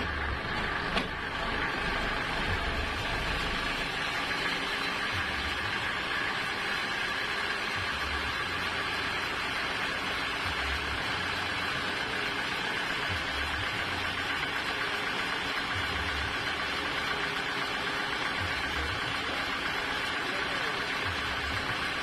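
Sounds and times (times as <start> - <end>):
sawmill machinery whirring hum: 0.0 - 22.0.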